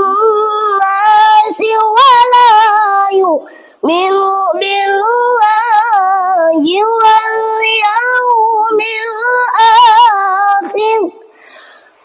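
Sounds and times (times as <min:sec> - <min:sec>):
child reciting melodically: 0:00.0 - 0:11.9.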